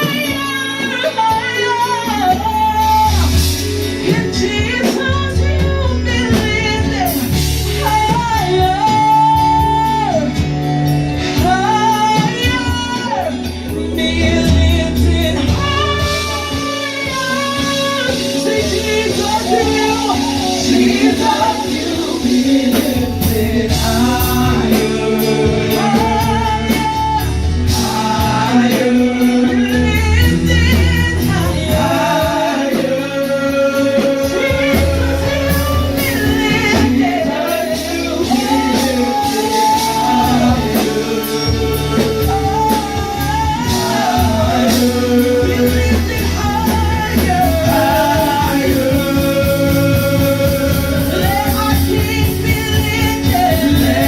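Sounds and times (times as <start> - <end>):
live worship band with singing: 0.0 - 54.0.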